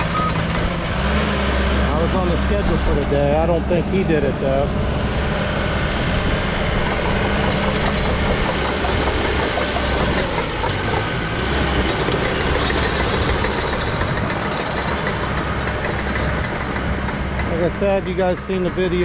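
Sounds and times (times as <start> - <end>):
diesel engine running steadily: 0.0 - 19.0.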